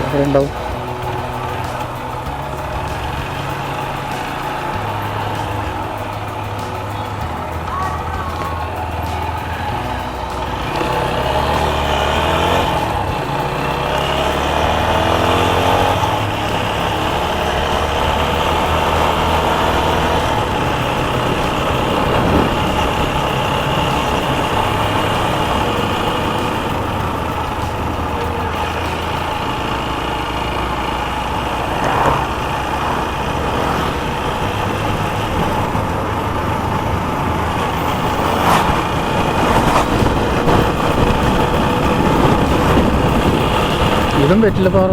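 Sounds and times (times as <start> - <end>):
motorcycle engine accelerating: 0.0 - 44.9
wind rushing while riding: 0.0 - 44.9.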